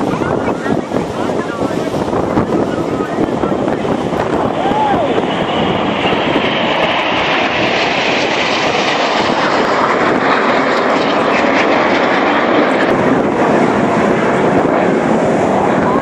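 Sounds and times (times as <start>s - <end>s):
jets flying past: 0.0s - 16.0s.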